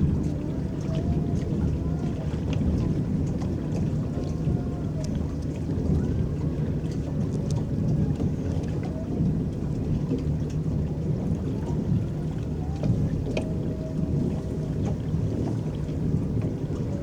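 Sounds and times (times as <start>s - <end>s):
water splashing against hull: 0.0s - 17.0s.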